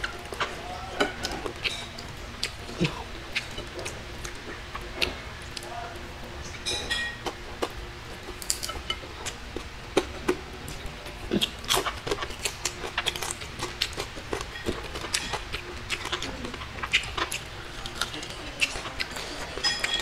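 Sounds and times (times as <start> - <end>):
chewing crunches: 0.0 - 5.7, 6.5 - 20.0.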